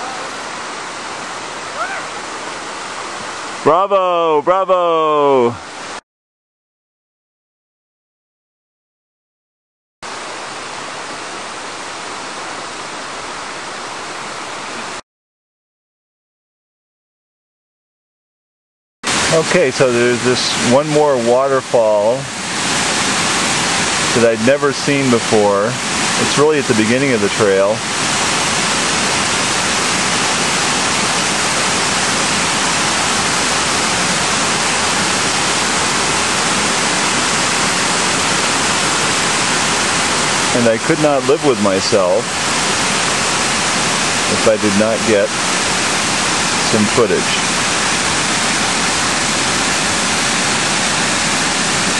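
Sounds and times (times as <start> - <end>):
waterfall rushing: 0.0 - 6.0, 10.0 - 15.0, 19.1 - 51.9.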